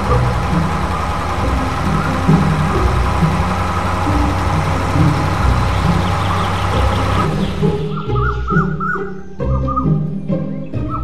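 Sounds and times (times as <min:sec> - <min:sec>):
truck engine idling: 0:00.0 - 0:08.9.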